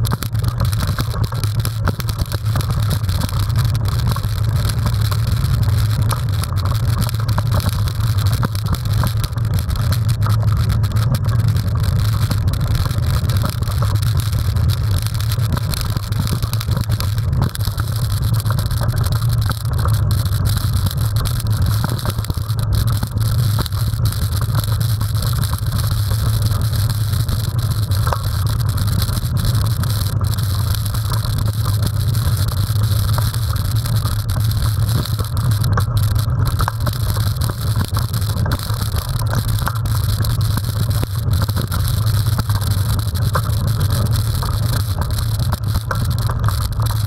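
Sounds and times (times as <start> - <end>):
bike clicks and rattles: 0.0 - 47.0.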